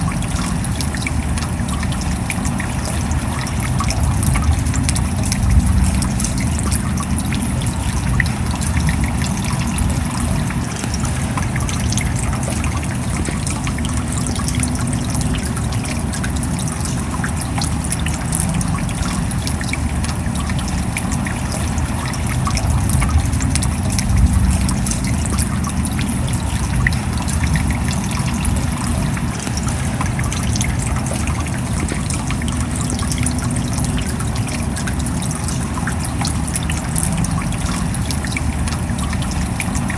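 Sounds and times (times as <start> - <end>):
steady rain falling: 0.0 - 39.9
water trickling: 0.0 - 39.9.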